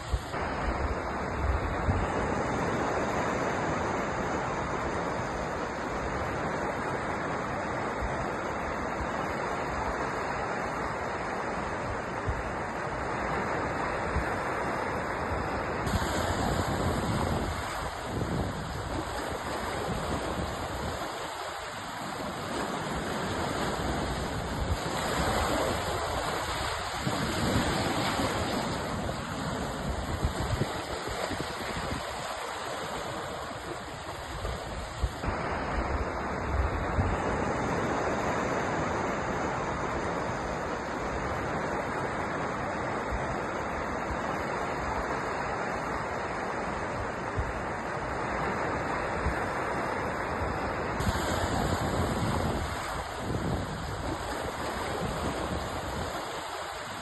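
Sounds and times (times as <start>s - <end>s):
sea surf washing on shore: 0.0s - 57.0s.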